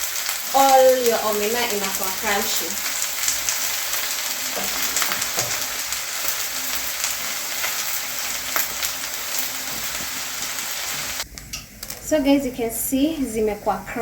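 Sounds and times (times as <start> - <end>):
small fish sizzling in a pan: 0.0 - 12.2.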